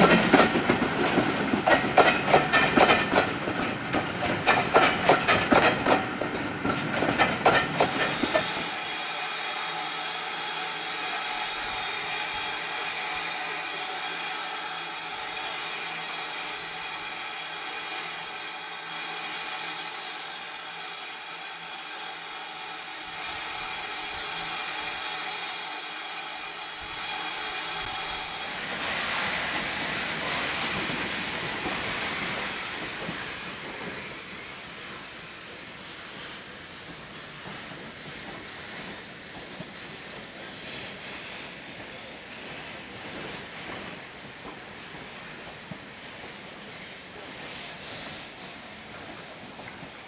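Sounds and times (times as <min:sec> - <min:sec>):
locomotive steam hissing: 0:00.0 - 0:50.0
rough rush of steam: 0:00.0 - 0:50.0.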